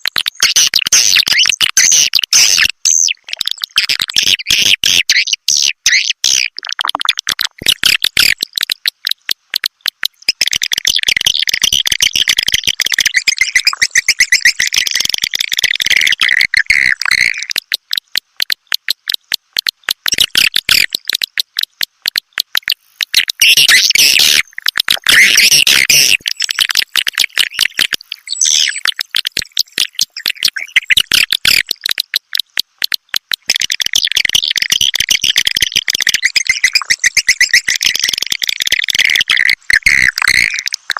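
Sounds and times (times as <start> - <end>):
swiftlets twittering: 5.2 - 40.8.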